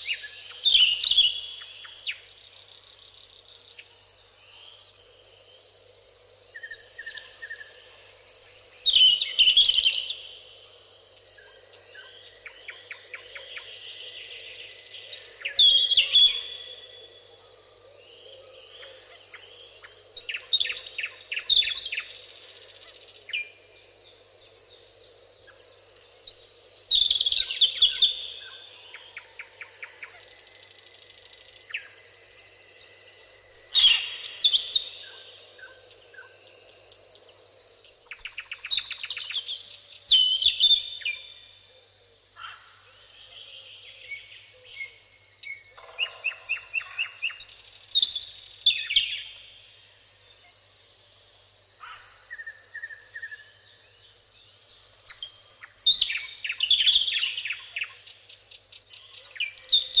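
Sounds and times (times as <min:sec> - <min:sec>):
songbirds singing and calling: 0:00.0 - 1:00.0.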